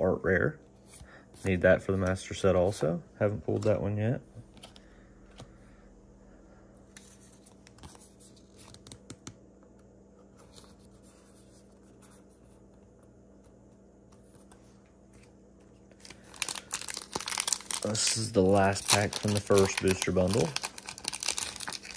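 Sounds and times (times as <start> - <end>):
faint hum: 0.0 - 21.9.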